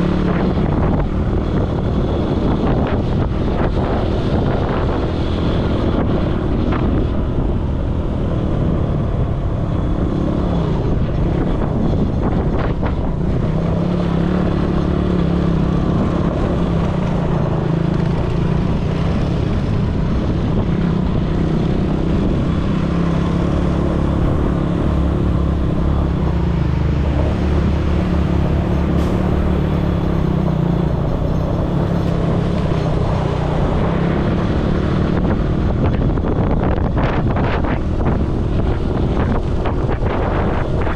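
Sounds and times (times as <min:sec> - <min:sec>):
atv engine running: 0:00.0 - 0:40.9
wind buffeting microphone: 0:00.0 - 0:40.9.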